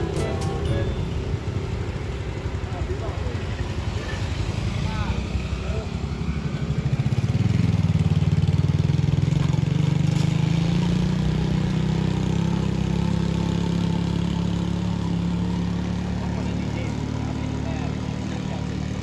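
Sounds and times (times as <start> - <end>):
motor scooter engine pulling away: 0.0 - 19.0.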